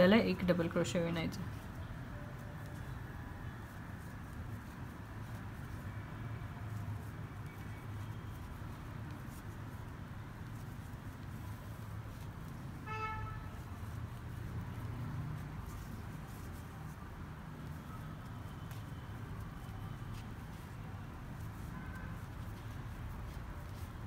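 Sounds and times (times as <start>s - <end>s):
distant traffic rumble: 0.0s - 24.0s.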